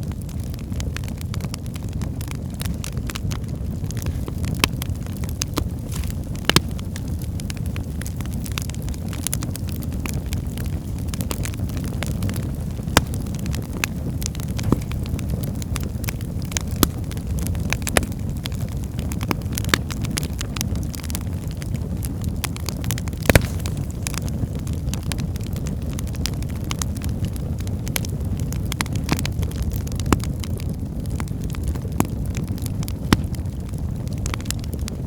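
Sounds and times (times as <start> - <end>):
sharp pops from burning logs: 0.0 - 35.0
wood fire crackling: 0.0 - 35.0.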